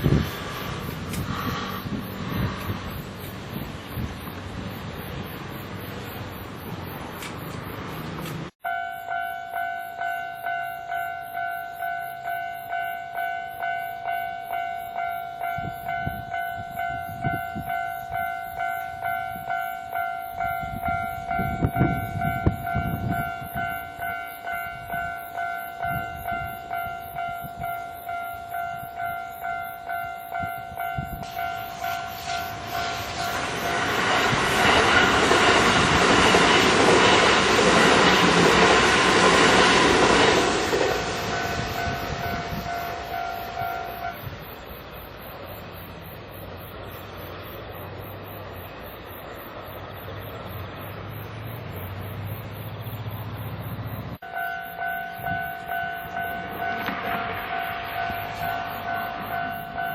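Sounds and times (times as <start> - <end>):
electric train rumbling past: 0.0 - 59.9
level crossing warning bell: 8.5 - 53.6, 54.2 - 59.9.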